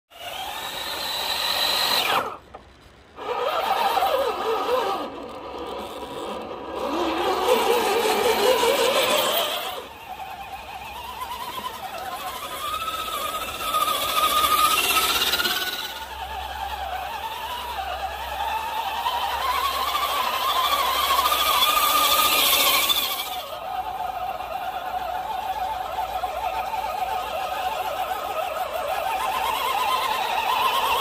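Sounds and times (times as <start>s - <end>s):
toy car electric motor whining: 0.1s - 31.0s.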